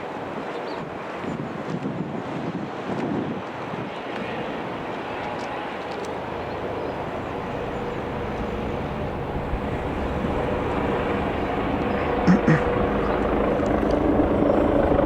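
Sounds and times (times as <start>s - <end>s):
helicopter flying over: 0.0s - 15.0s.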